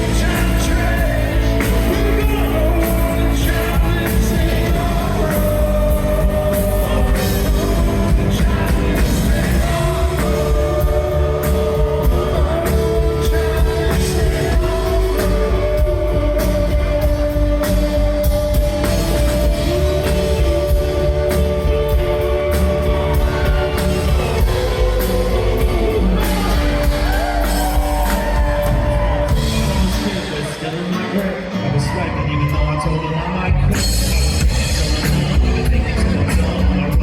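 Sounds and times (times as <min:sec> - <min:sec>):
bass: 0:00.0 - 0:37.0
drums: 0:00.0 - 0:37.0
live rock band: 0:00.0 - 0:37.0
sung vocals: 0:00.0 - 0:37.0.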